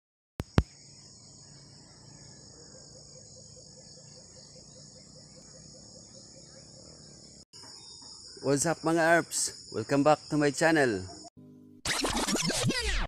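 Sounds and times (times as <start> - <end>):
insects trilling: 0.4 - 11.3.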